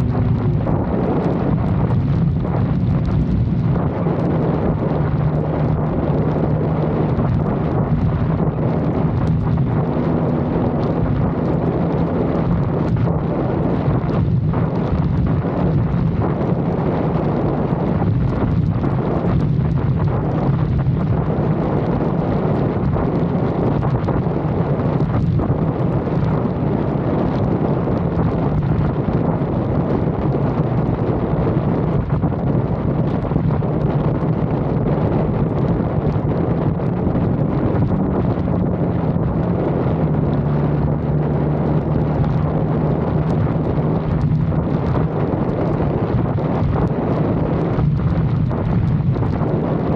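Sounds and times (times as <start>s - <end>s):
road and engine drone: 0.0s - 49.9s
wind buffeting microphone: 0.0s - 49.9s.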